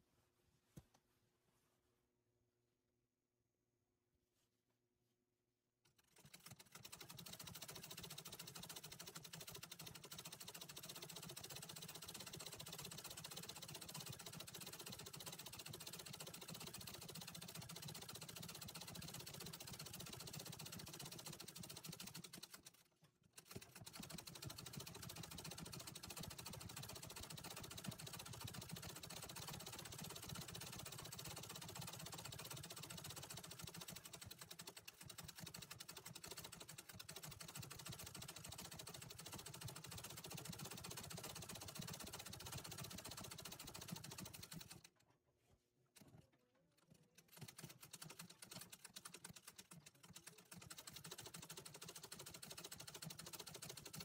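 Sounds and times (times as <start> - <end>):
treadle sewing machine running: 5.9 - 44.9, 46.8 - 54.0.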